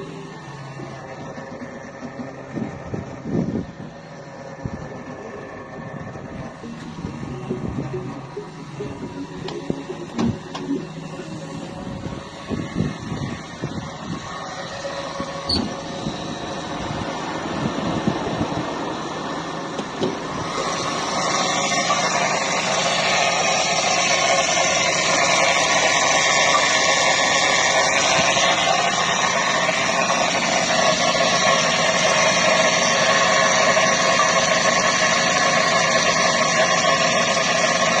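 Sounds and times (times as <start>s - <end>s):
car engine idling: 0.0s - 38.0s
power steering pump humming: 0.0s - 38.0s.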